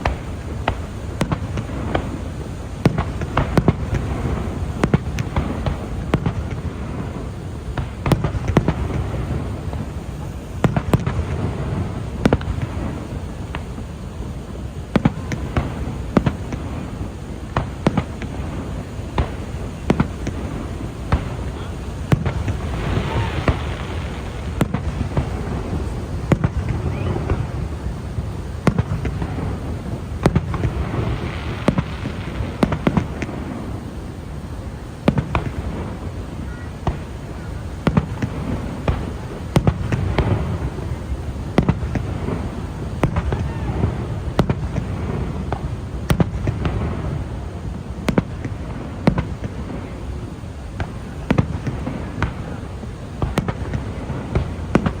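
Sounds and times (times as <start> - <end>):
fireworks banging: 0.0 - 55.0
fireworks crackling: 0.0 - 55.0.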